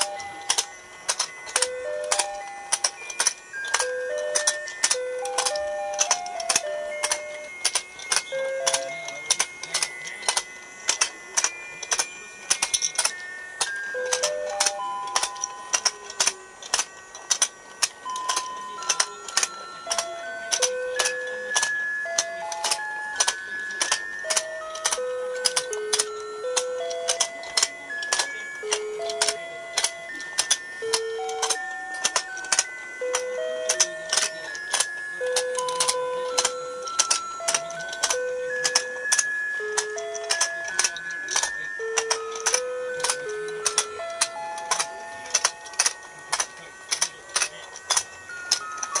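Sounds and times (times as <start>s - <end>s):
electronic toy tune beeping: 0.0s - 49.0s
plastic toy clicks clacking: 0.0s - 49.0s.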